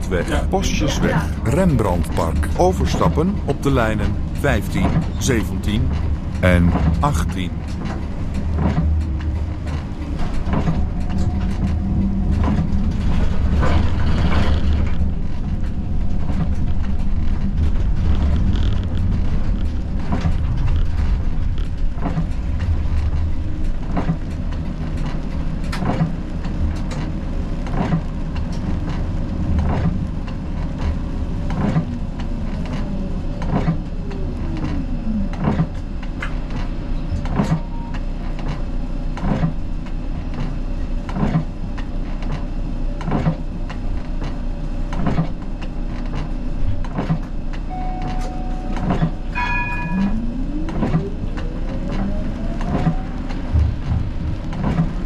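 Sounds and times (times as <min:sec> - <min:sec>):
tram rumbling on track: 0:00.0 - 0:55.0
tram whine: 0:00.0 - 0:55.0
wheels clicking on rails: 0:00.0 - 0:55.0.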